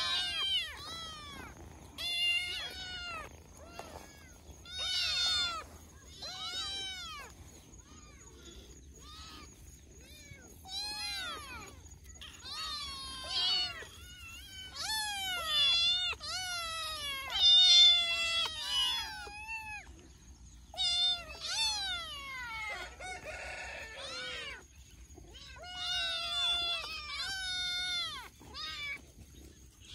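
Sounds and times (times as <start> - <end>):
kittens meowing: 0.0 - 29.9.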